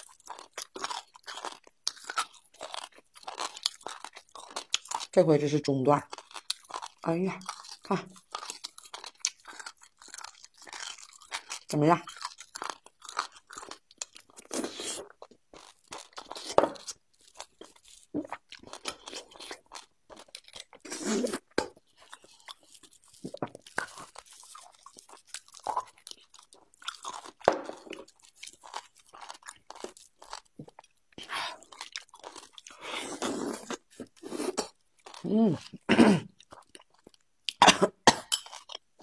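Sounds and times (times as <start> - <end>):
chewing and biting: 0.0 - 5.1, 6.1 - 35.8.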